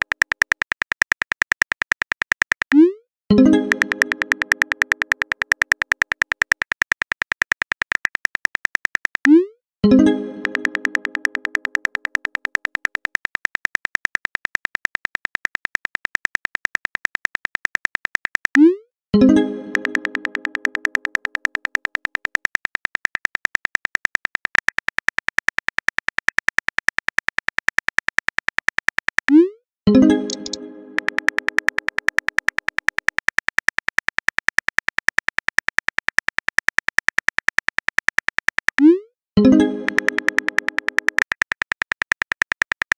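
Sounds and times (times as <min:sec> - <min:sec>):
phone keyboard typing clicks: 0:00.0 - 0:42.9.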